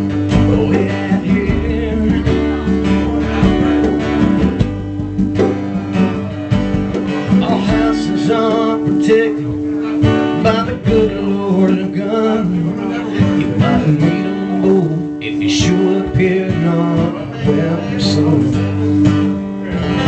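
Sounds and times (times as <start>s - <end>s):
country band playing: 0.0s - 20.0s
guitar strumming: 0.0s - 20.0s.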